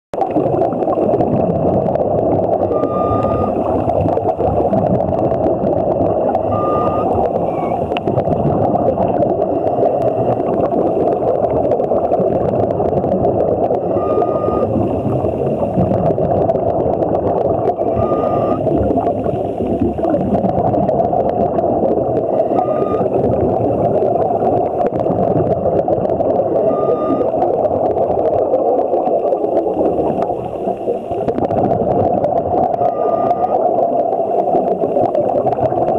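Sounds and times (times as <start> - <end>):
water and bubbles rushing: 0.2 - 35.9.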